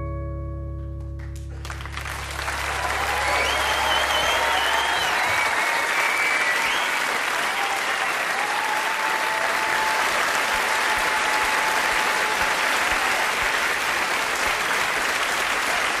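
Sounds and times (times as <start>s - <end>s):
audience applauding: 1.3s - 16.0s.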